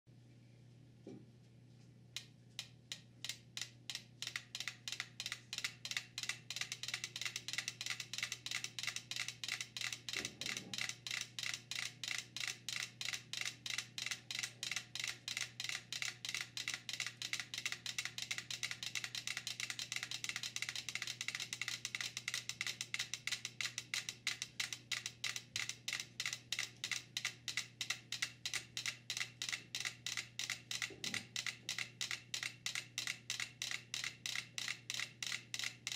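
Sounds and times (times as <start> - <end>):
metronomes ticking: 2.6 - 35.9.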